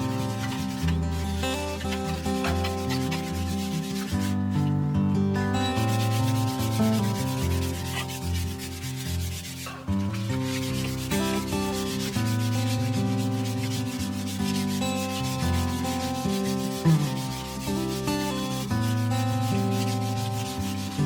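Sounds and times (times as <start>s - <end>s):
sandpaper rubbing strokes: 0.0s - 4.4s, 5.6s - 21.0s.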